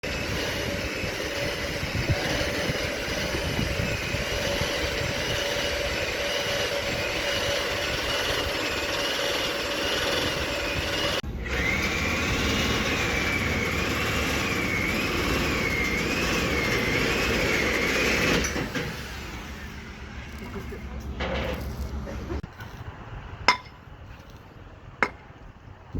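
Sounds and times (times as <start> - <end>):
heavy construction machinery: 0.0 - 25.9.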